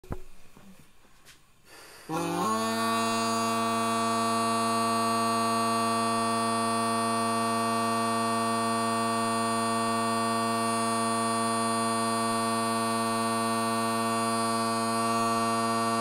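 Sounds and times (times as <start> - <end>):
bagpipe drones: 2.1 - 16.0.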